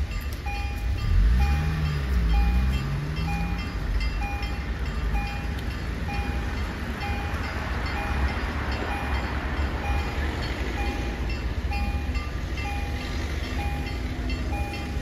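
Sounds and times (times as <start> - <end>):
level crossing bells dinging: 0.0 - 15.0.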